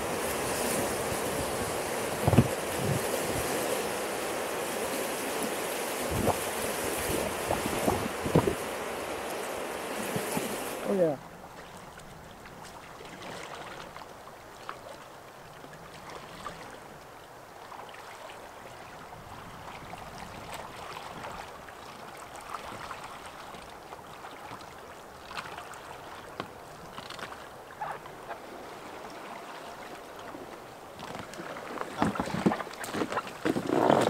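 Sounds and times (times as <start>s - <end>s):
lake water lapping at shore: 0.0s - 34.0s
paddle ticks and small splashes: 0.0s - 34.0s.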